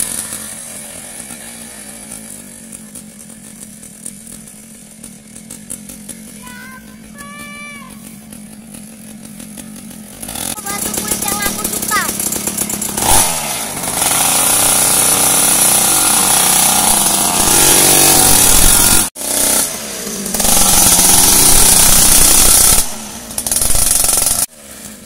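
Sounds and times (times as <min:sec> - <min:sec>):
small dirt bike engine revving: 0:00.0 - 0:25.0.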